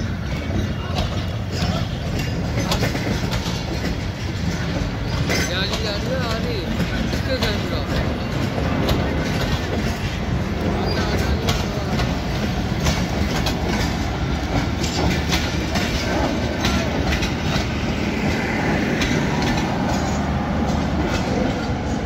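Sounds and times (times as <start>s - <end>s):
train wheels rumbling on rails: 0.0s - 22.0s
wheels clicking over rail joints: 0.0s - 22.0s.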